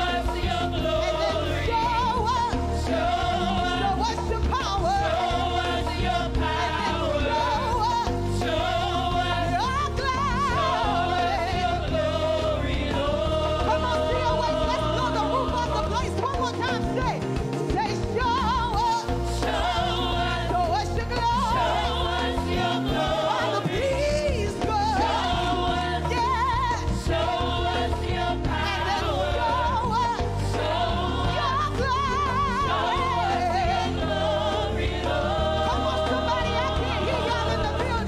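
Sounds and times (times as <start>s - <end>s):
instrumental accompaniment: 0.0s - 38.0s
steady bass line: 0.0s - 38.0s
women singing gospel with vibrato: 0.0s - 38.0s.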